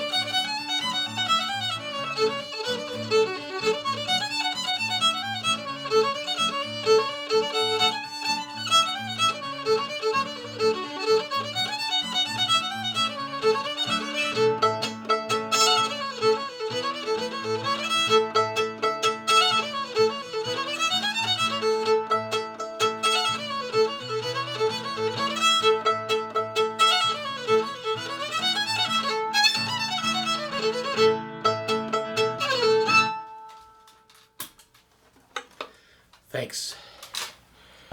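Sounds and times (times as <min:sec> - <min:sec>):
solo fiddle playing: 0:00.0 - 0:34.1.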